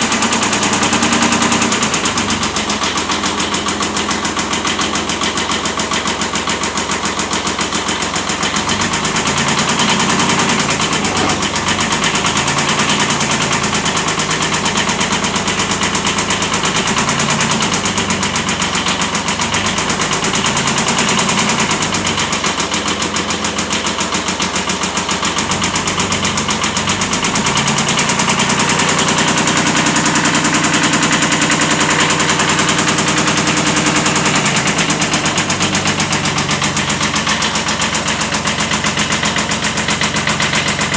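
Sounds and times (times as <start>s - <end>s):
diesel tractor engine knocking: 0.0s - 40.9s.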